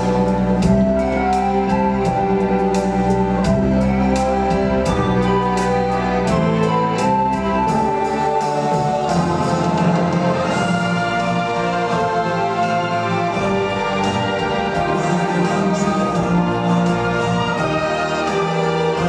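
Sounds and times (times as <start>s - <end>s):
orchestral brass chords: 0.0s - 19.0s.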